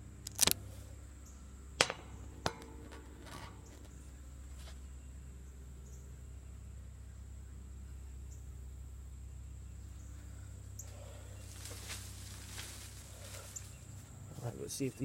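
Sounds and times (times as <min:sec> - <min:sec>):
air conditioner units humming: 0:00.0 - 0:15.0.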